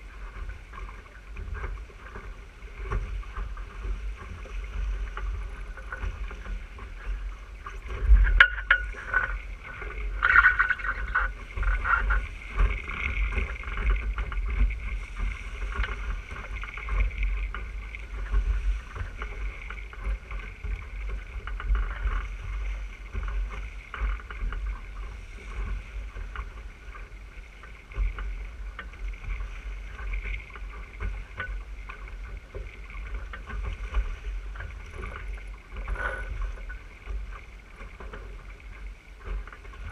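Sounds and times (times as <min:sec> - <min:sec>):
water rushing along a boat hull: 0:00.0 - 0:39.9.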